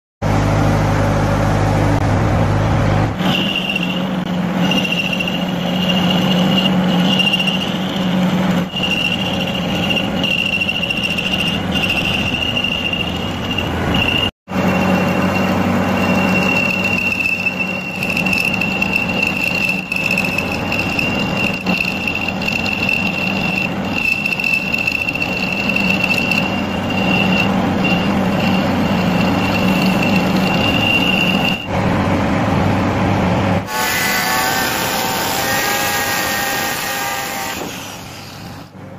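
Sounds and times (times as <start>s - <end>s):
lathe cutting tool squealing: 3.1s - 33.0s, 33.6s - 38.8s.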